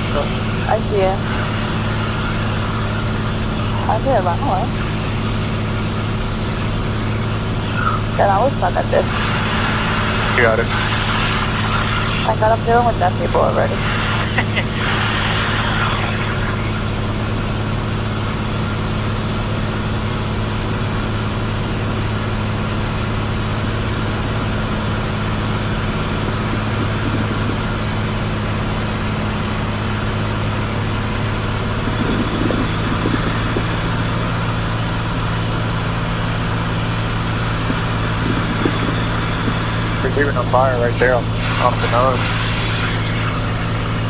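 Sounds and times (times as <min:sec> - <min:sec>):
airplane engine droning in cabin: 0:00.0 - 0:44.0.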